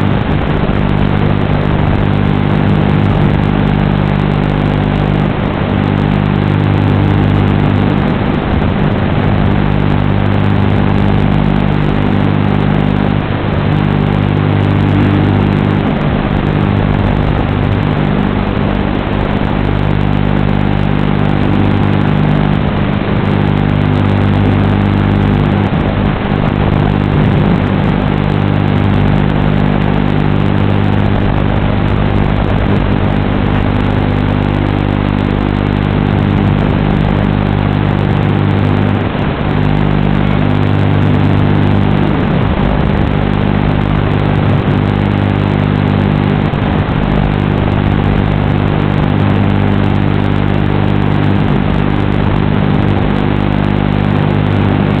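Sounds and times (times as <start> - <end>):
low buzz: 0.0 - 55.0.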